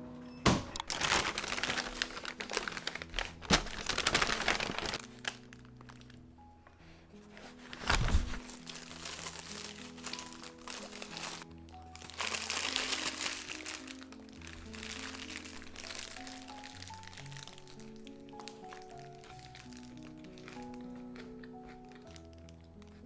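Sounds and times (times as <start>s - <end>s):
soft background music: 0.0s - 23.0s
paper bag crinkling: 0.8s - 6.2s, 7.2s - 23.0s.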